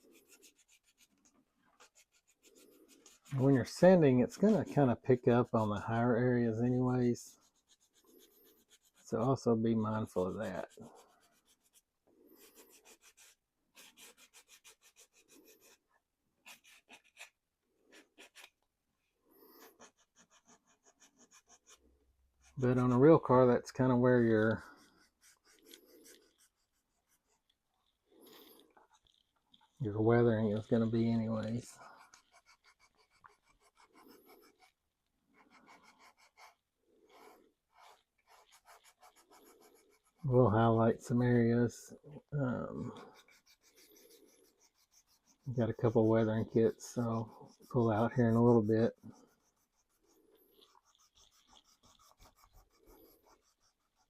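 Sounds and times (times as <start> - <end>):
hand sanding plastic: 0.0 - 18.6, 19.4 - 54.0.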